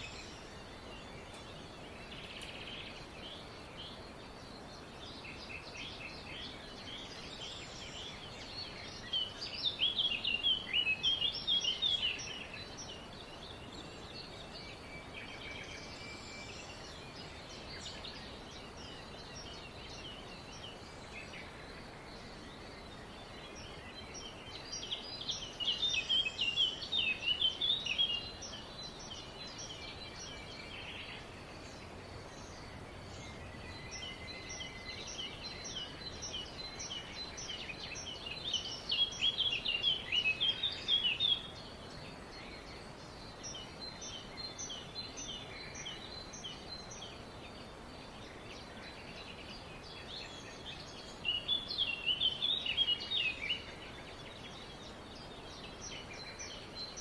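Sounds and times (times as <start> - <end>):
background hiss: 0.0 - 57.0
songbirds chirping and singing: 0.0 - 57.0.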